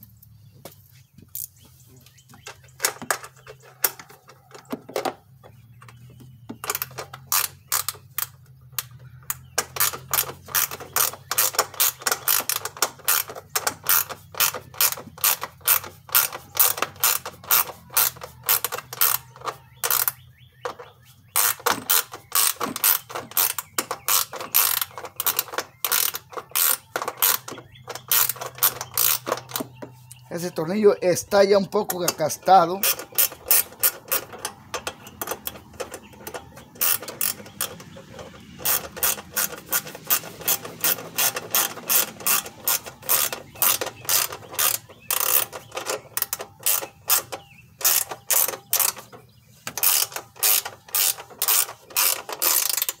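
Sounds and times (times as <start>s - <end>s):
ratchet wrench clicking: 6.6s - 30.2s, 31.7s - 53.0s.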